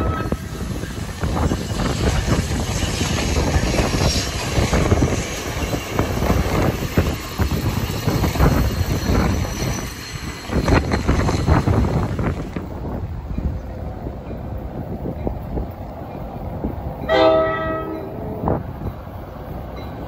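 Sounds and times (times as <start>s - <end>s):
train running past: 0.0s - 20.0s.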